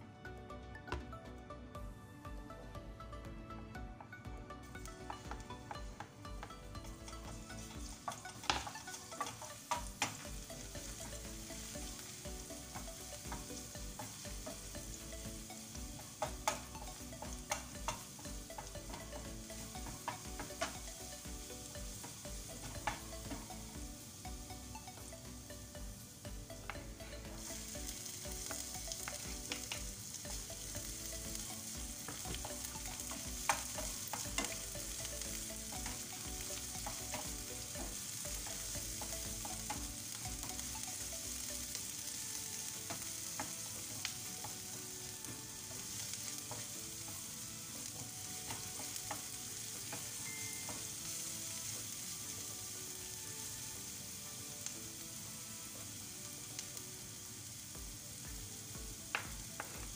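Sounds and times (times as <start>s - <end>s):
onions sizzling in hot oil: 4.6s - 59.9s.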